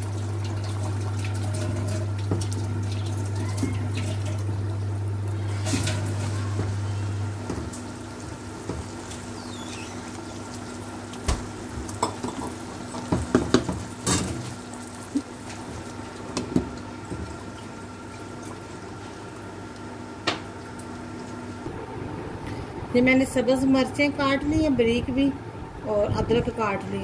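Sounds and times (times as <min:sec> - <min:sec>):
sauce bubbling and sizzling: 0:00.0 - 0:21.7
steady hum: 0:00.0 - 0:27.0.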